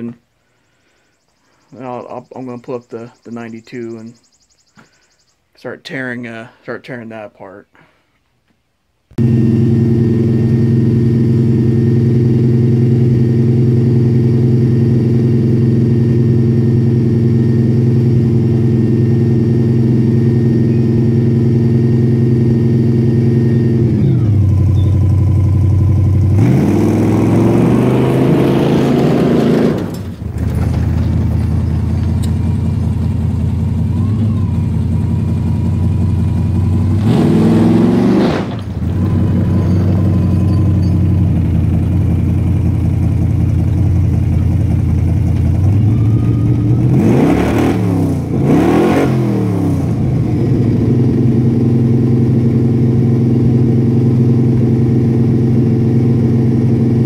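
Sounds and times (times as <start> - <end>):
pickup truck engine revving: 9.2 - 57.0.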